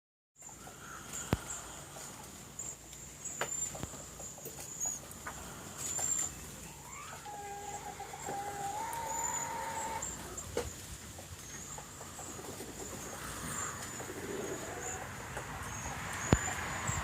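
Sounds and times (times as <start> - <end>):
small birds chirping and whistling: 2.6 - 17.0.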